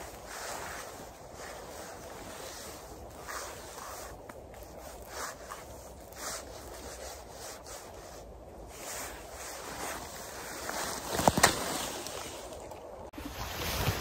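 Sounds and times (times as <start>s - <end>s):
hands rustling through wet moss: 0.0s - 13.1s.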